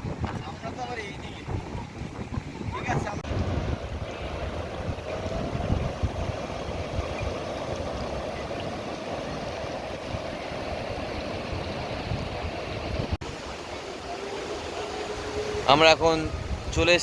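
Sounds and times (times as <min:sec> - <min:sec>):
sea surf washing in: 0:00.0 - 0:17.0
wind buffeting microphone: 0:00.0 - 0:17.0.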